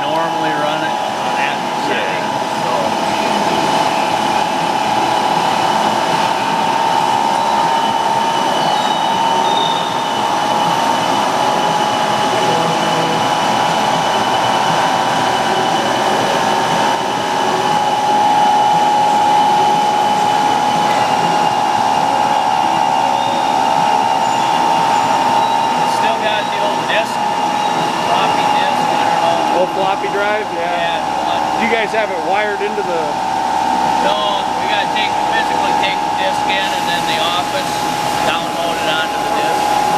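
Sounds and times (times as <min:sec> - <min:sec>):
machinery hum with high whine: 0:00.0 - 0:39.9.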